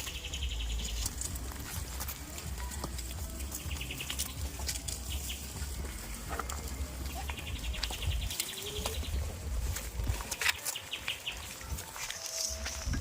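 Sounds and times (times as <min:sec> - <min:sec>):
goats moving about: 0:00.0 - 0:13.0.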